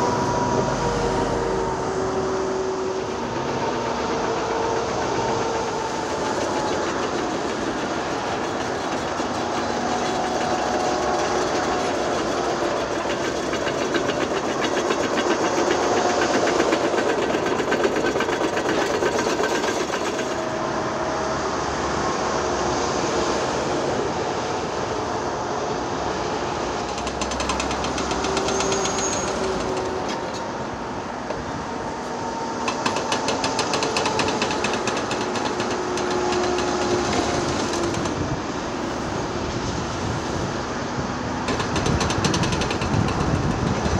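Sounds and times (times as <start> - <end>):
diesel machinery drone: 0.0 - 43.9.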